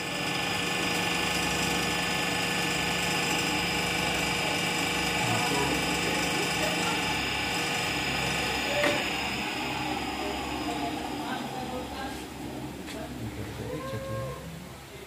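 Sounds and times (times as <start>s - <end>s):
balancing machine whining: 0.0s - 15.0s.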